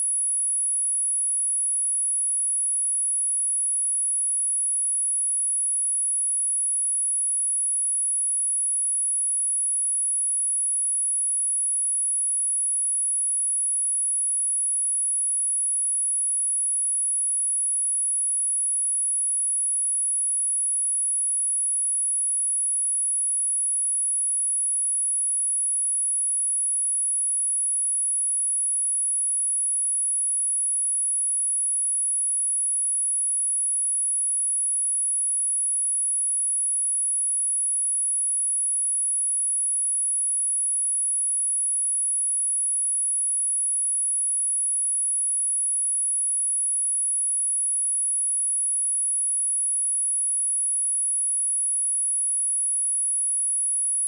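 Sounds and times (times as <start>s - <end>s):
high-pitched sine-wave test tone: 0.0s - 54.0s.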